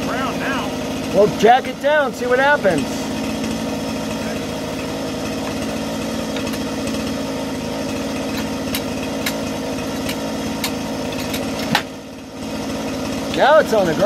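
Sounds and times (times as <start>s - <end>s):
engine idling: 0.0s - 14.0s
jack clicking metallically: 0.7s - 14.0s.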